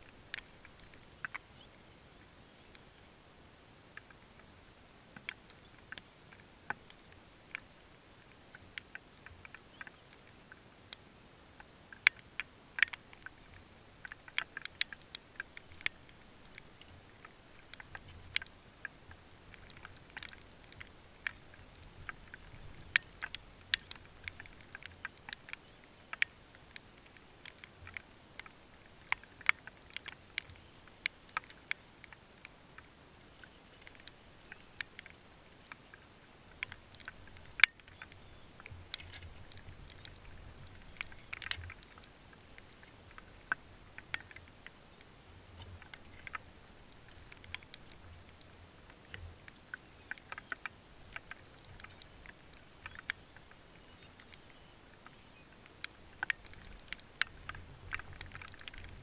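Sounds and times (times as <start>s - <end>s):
faint steady hiss: 0.0s - 59.0s
raindrops tapping: 5.2s - 59.0s.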